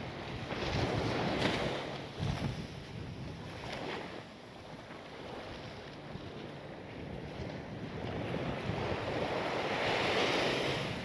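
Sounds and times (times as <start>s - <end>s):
sea waves breaking on sand: 0.0s - 11.0s
wind buffeting microphone: 0.0s - 11.0s.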